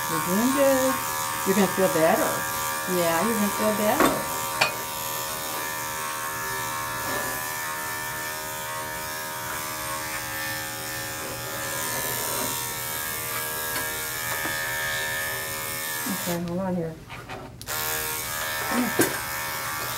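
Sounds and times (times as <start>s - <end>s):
electric clippers humming: 0.0s - 16.9s, 17.6s - 19.9s.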